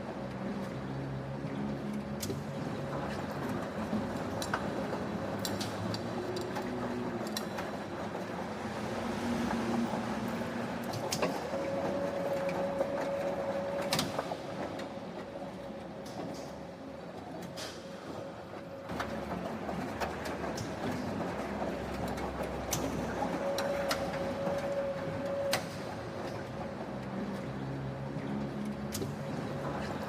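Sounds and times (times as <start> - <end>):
factory machinery hum: 0.0 - 30.0.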